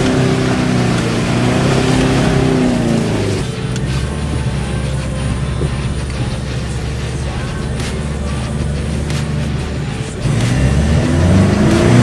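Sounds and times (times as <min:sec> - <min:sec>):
pickup engine revving: 0:00.0 - 0:12.0.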